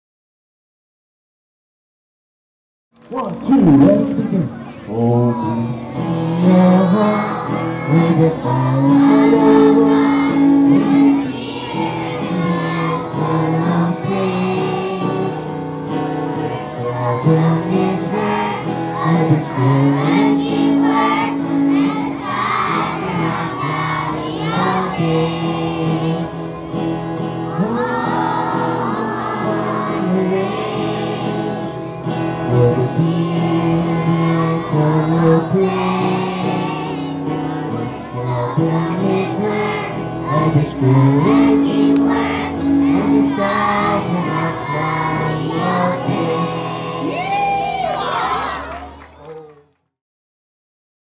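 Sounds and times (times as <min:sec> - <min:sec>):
instrumental accompaniment: 0:03.0 - 0:49.0
children singing together: 0:04.8 - 0:48.6.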